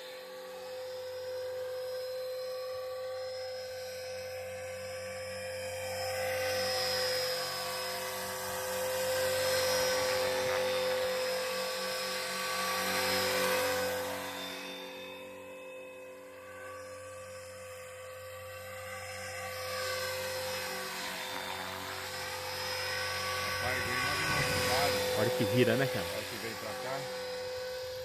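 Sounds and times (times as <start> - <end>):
model helicopter rotor whine: 0.0 - 28.0.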